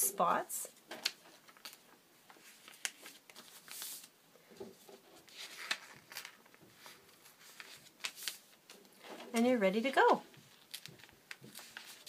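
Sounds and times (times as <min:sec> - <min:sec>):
paper rustling: 0:00.9 - 0:12.0.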